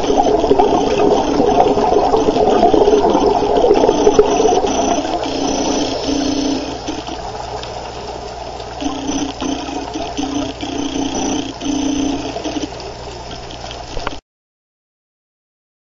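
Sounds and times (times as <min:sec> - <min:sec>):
short humming tones: 0:00.0 - 0:14.2
steady low hum: 0:00.0 - 0:14.2
underwater bubbles gurgling: 0:00.0 - 0:14.2.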